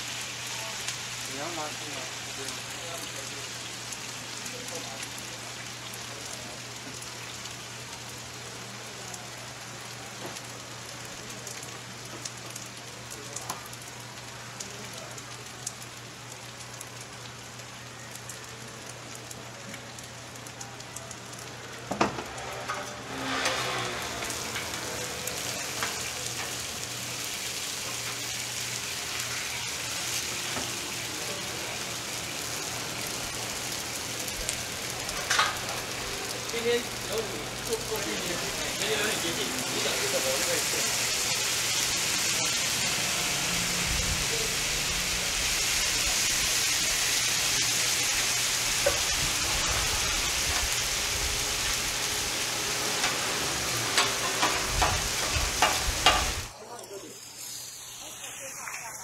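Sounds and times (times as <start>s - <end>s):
pancakes sizzling on griddle: 0.0s - 59.0s.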